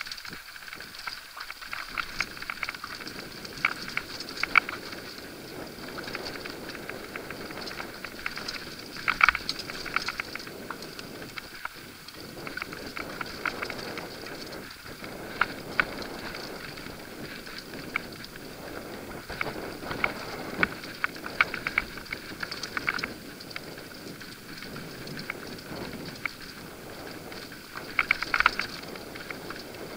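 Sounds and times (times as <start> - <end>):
bike rattling and clattering: 0.0 - 29.9
bike tyres on dirt: 0.0 - 29.9.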